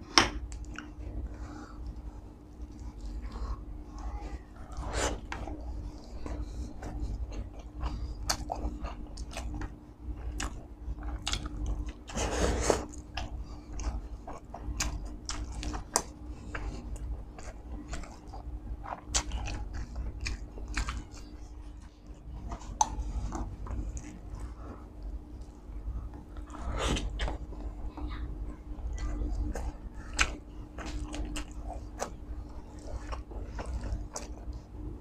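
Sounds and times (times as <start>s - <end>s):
faint steady hum: 0.0s - 35.0s
close chewing with wet smacks: 0.4s - 4.1s, 5.3s - 12.2s, 12.8s - 35.0s.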